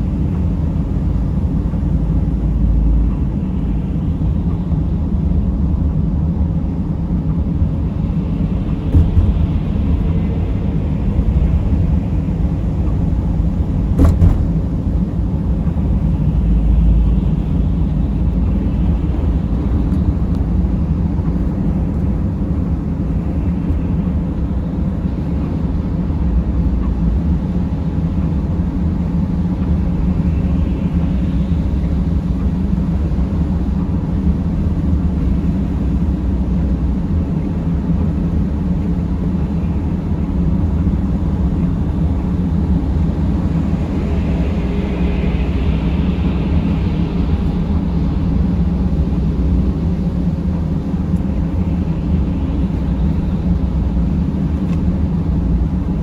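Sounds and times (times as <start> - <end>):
vehicle engine and tyre rumble: 0.0 - 56.0.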